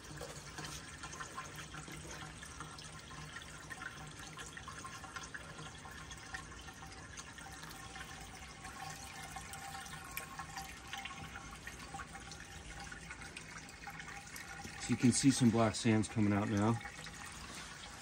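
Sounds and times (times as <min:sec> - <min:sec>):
water drips and splashes: 0:00.0 - 0:18.0
water running from a pipe: 0:00.0 - 0:18.0.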